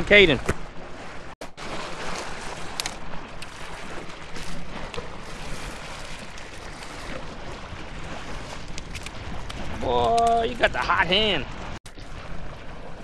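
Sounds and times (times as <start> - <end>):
small waves splashing on rocks: 0.2 - 12.6.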